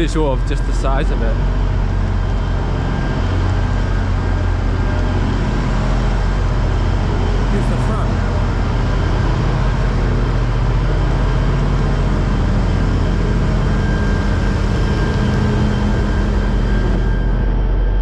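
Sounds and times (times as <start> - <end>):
large engine rumbling: 0.0 - 18.0
steady hum: 0.0 - 18.0.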